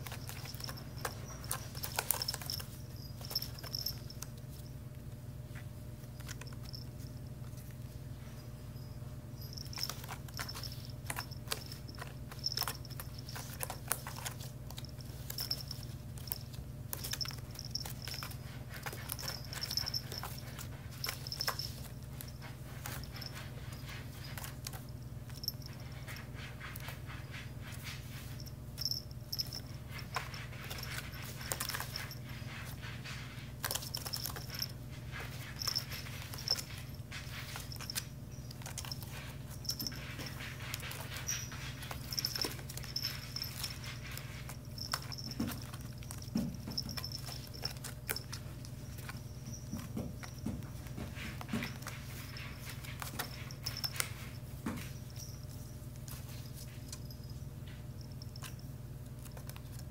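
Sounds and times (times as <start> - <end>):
claws scratching on woven basket: 0.0 - 4.6, 9.5 - 57.2
steady low hum: 0.0 - 59.9.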